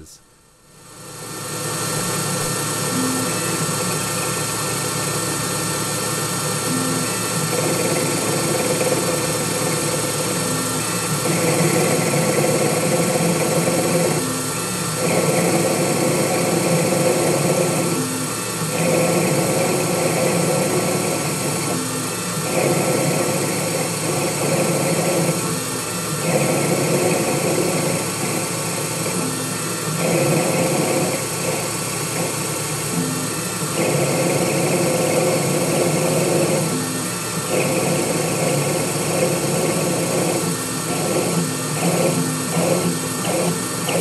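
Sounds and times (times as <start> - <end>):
lathe running: 1.0 - 44.0
lathe tool cutting steel: 1.8 - 44.0.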